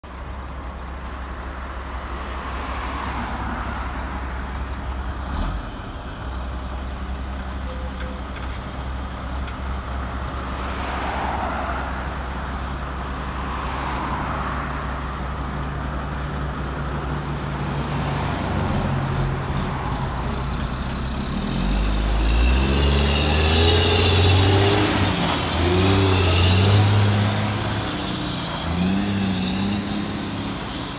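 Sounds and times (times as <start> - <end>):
diesel truck engine: 0.0 - 30.9.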